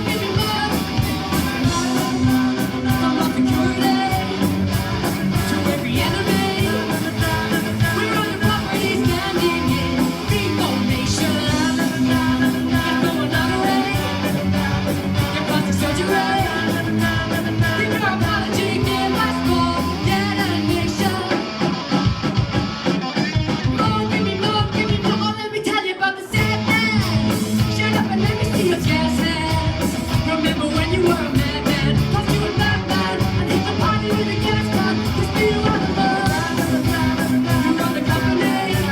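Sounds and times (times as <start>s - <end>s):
person singing: 0.0s - 21.6s, 23.6s - 38.9s
live rock band playing: 0.0s - 38.9s.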